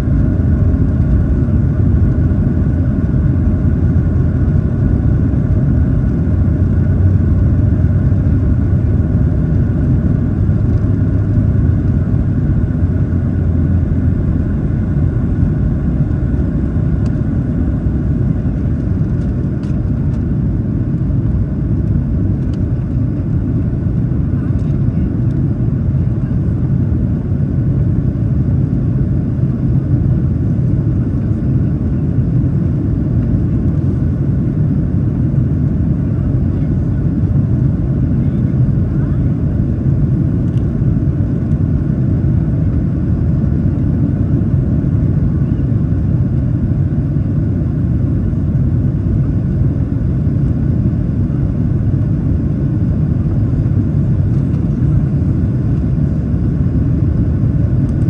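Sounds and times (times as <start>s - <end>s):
jet engines at climb power: 0.0s - 58.0s.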